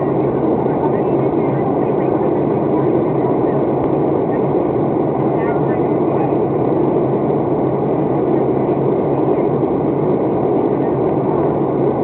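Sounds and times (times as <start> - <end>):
airliner cabin engine and airflow rush: 0.0 - 12.0.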